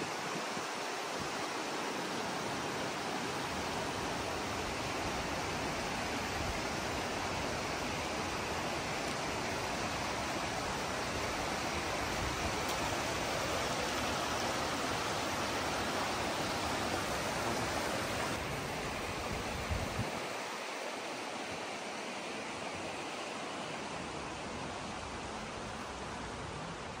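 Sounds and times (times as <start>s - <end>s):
river rushing over boulders: 0.0s - 27.0s.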